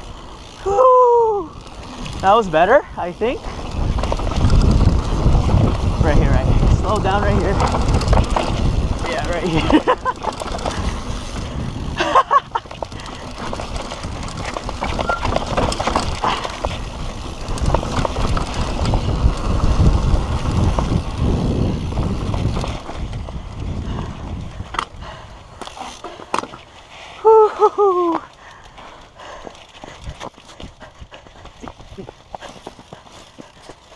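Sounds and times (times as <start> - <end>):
bike rattling over bumps: 0.0 - 33.9
bike tyres rolling over stones: 0.0 - 33.9.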